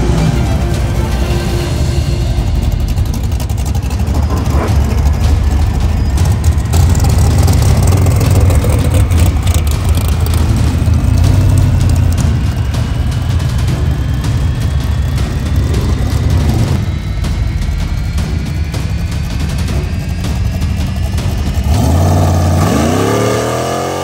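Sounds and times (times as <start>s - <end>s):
faint rising whine: 0.0s - 23.3s
loud race car engines rumbling: 0.0s - 24.0s.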